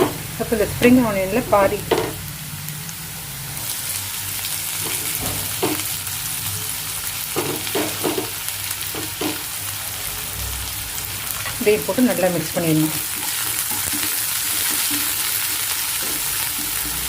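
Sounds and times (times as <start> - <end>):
onions frying in oil: 0.0 - 17.0.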